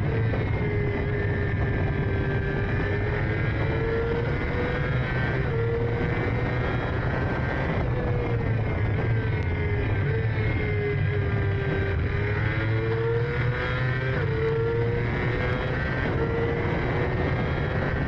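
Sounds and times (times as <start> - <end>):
engine running at high revs: 0.0 - 18.0
noisy rush: 0.0 - 18.0.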